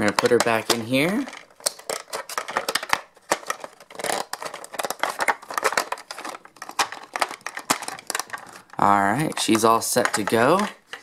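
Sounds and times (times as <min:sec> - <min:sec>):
plastic toy parts clicking: 0:00.0 - 0:11.0.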